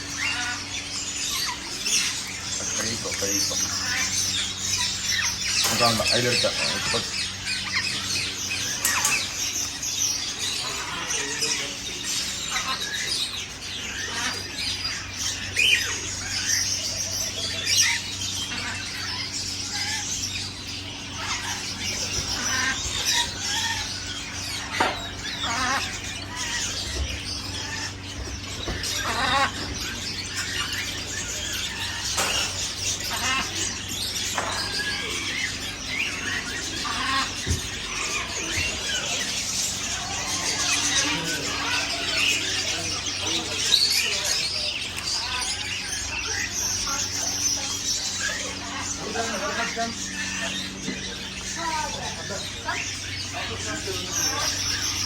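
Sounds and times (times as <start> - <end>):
caged birds chirping: 0.0 - 55.0
steady low hum: 0.0 - 55.0.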